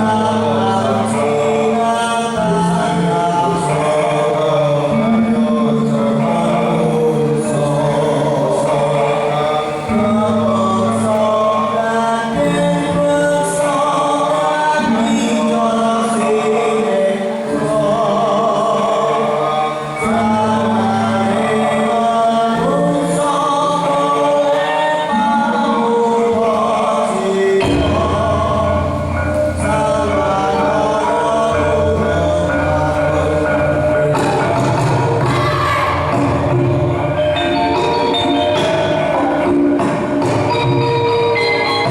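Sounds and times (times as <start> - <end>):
group of voices singing: 0.0 - 41.9.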